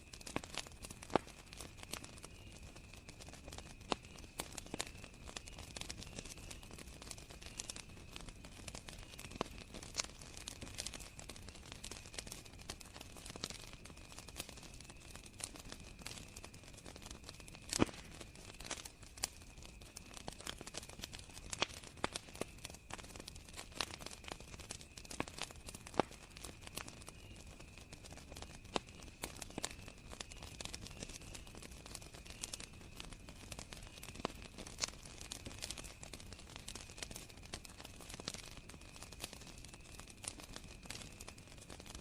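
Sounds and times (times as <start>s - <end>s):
campfire crackling and popping: 0.0s - 42.0s
crickets chirring: 0.1s - 41.8s.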